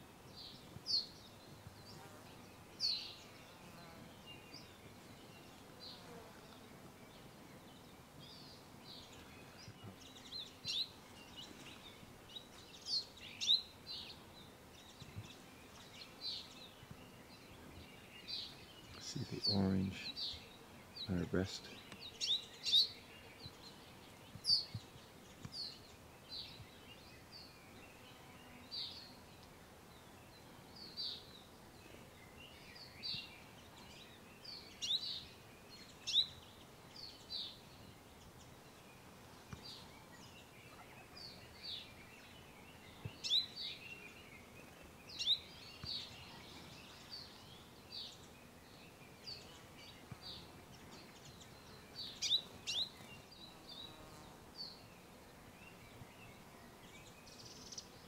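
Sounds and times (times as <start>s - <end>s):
faint steady hiss: 0.0s - 58.0s
small birds chirping: 0.0s - 58.0s.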